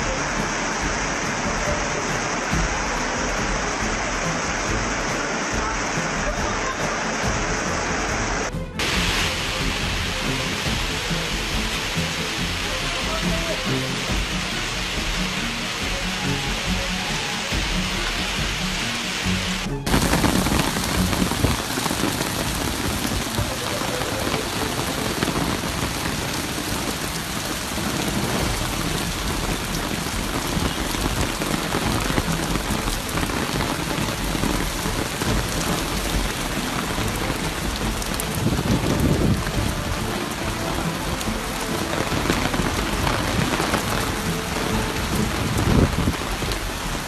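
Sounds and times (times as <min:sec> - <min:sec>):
heavy rain hissing: 0:00.0 - 0:47.0.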